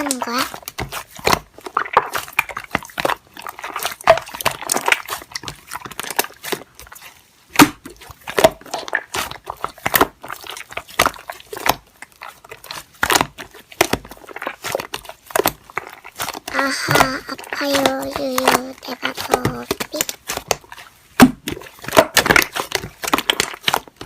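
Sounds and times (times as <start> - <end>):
slime squeezed by hand: 0.0 - 24.0.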